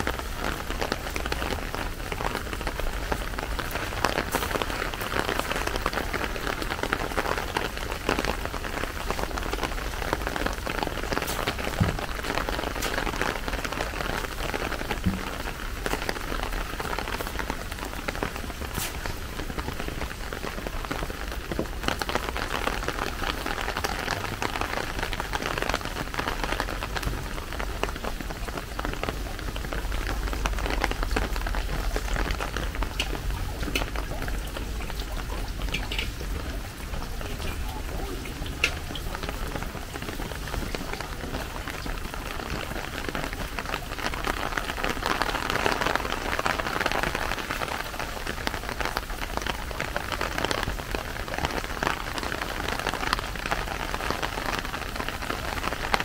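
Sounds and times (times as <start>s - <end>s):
raindrops ticking close by: 0.0s - 56.0s
steady rain falling: 0.0s - 56.0s.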